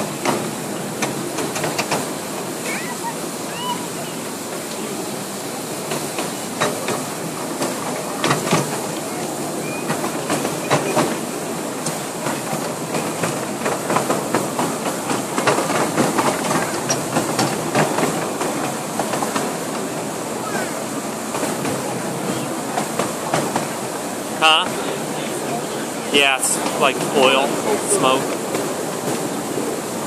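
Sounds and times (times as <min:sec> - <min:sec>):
train wheels clattering over rail joints: 0:00.0 - 0:02.7, 0:05.8 - 0:30.0
steam hissing: 0:00.0 - 0:30.0.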